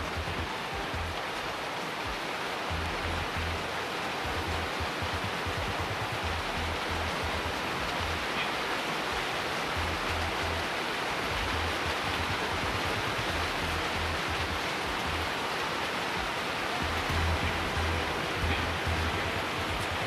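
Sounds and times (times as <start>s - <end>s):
background music with bass: 0.0s - 1.3s, 2.7s - 8.5s, 9.7s - 15.4s, 16.2s - 20.0s
steady hiss: 0.0s - 20.0s.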